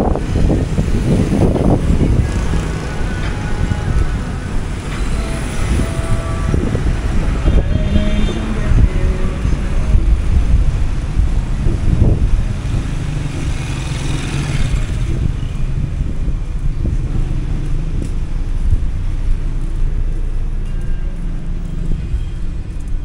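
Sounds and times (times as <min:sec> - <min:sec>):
cars passing: 0:00.0 - 0:23.0
motorcycles passing: 0:00.0 - 0:23.0.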